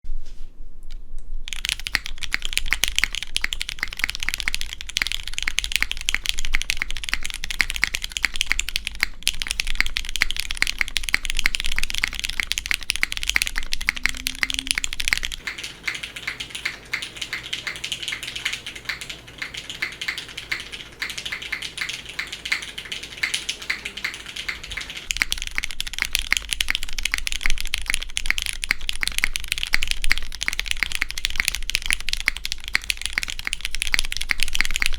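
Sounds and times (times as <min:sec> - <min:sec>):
mechanical keyboard typing: 0:01.5 - 0:34.9.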